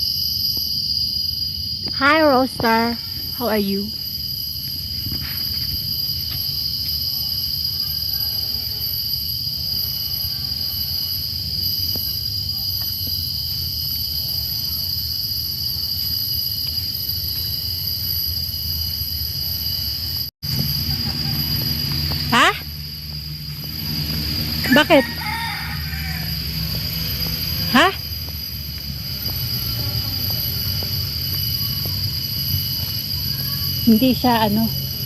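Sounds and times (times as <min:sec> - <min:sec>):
insect chorus drone: 0:00.0 - 0:35.0.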